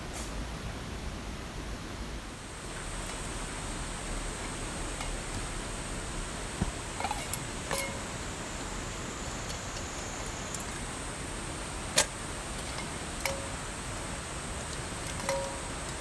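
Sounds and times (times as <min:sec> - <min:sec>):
steady hiss: 0:01.9 - 0:16.0
faint high-pitched whine: 0:02.4 - 0:16.0
sharp ticks with ringing tone: 0:02.6 - 0:16.0.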